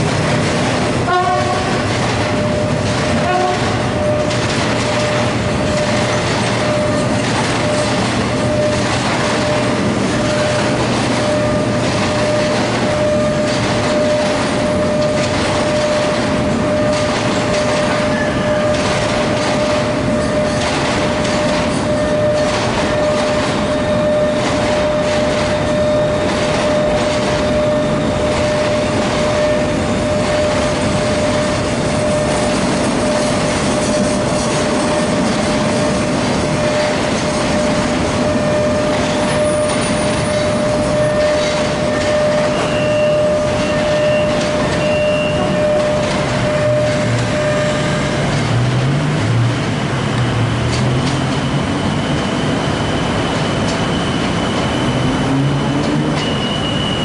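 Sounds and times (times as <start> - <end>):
steady high tone: 0.0 - 48.6
rail clicks: 0.0 - 57.0
train wheels rumbling on rail: 0.0 - 57.0.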